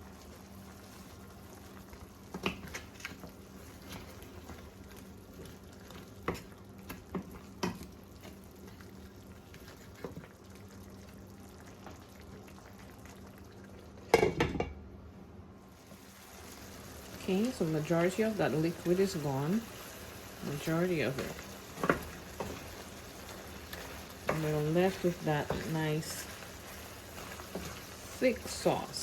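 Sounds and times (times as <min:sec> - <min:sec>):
meat sizzling and bubbling in pot: 0:00.0 - 0:29.0.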